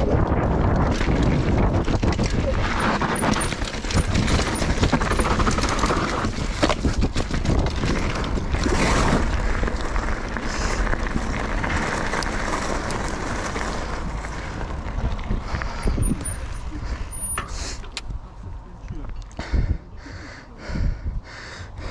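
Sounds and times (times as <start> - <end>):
wind rushing over microphone: 0.0 - 18.8, 20.6 - 21.9
bike rattling over dirt trail: 0.0 - 19.8
bike tyres rumbling: 0.0 - 21.9.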